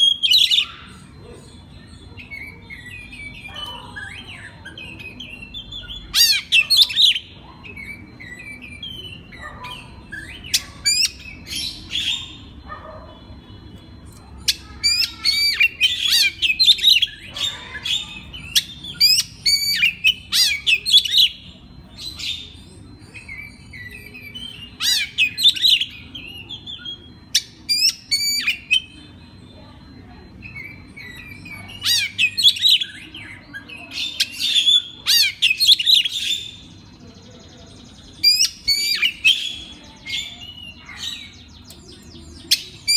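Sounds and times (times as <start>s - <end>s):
bird singing whistles and trills: 0.0s - 12.6s, 14.0s - 42.9s.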